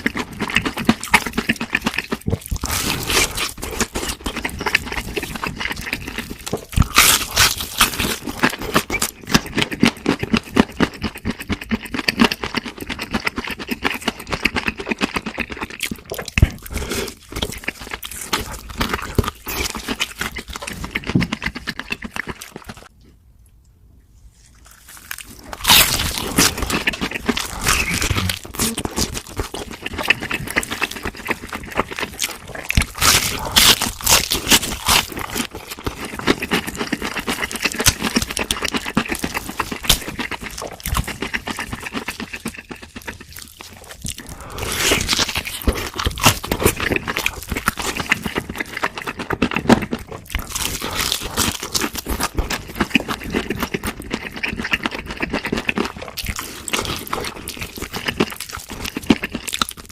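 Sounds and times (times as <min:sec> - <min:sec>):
chewing crunchy fried food: 0:00.0 - 0:23.2, 0:24.4 - 0:59.9.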